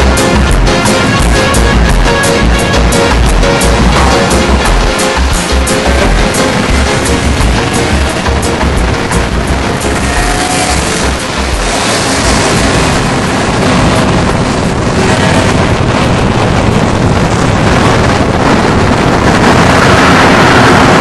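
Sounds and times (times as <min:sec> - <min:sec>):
vehicle noise: 0:00.0 - 0:21.0
wind rushing over microphone: 0:00.0 - 0:21.0.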